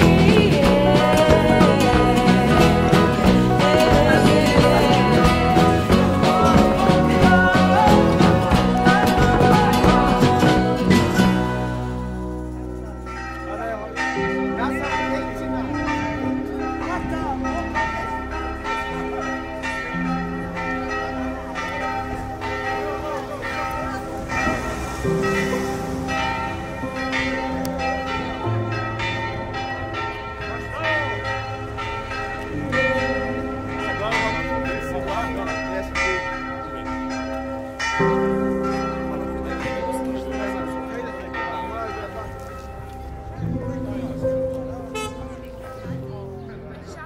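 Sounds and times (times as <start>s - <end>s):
church bells ringing a peal: 0.0s - 47.0s.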